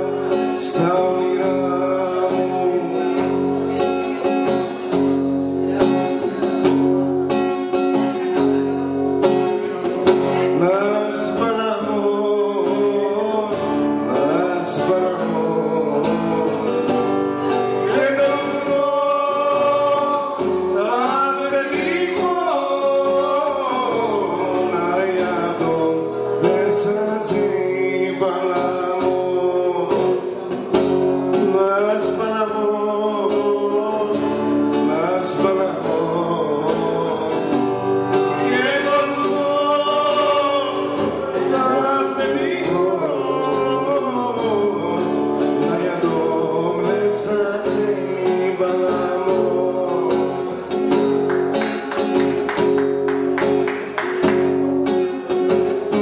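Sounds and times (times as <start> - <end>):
man singing into a microphone: 0.0 - 52.1, 55.1 - 56.0
strummed acoustic guitar: 0.0 - 56.0.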